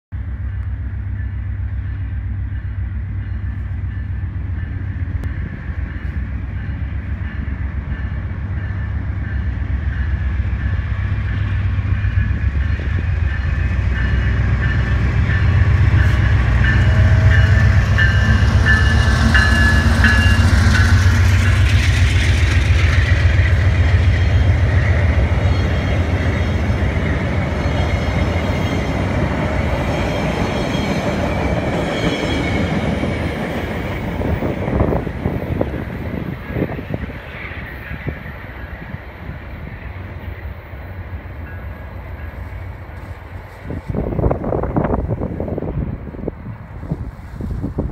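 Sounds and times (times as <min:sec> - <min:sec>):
diesel locomotive drone: 0:00.1 - 0:47.9
train coaches rolling on rails: 0:00.2 - 0:47.9.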